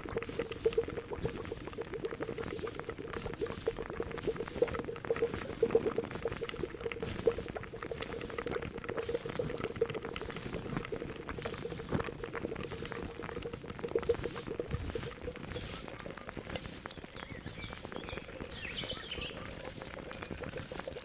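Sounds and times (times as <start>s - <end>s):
pot of liquid boiling: 0.0s - 21.0s.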